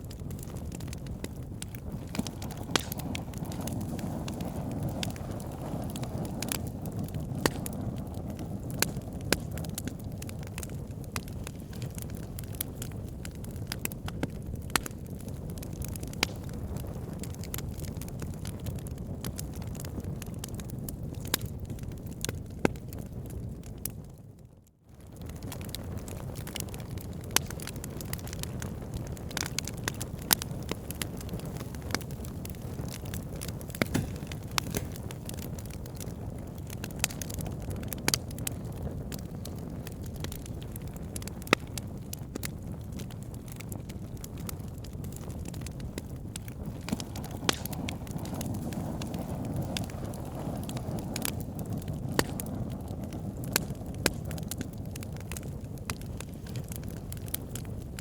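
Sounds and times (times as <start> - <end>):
low rush of flame: 0.0 - 22.4, 25.0 - 58.0
wood fire crackles and pops: 0.0 - 58.0.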